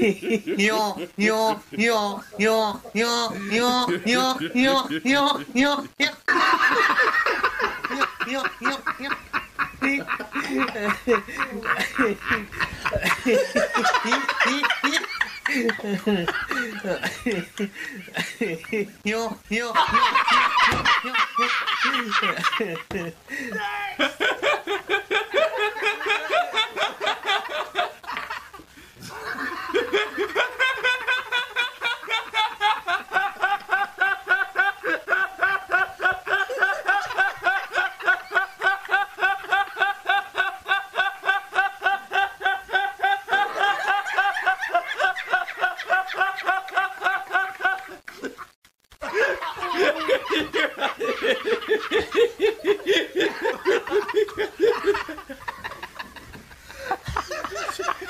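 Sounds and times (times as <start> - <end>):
man laughing hard: 0.0 - 58.0.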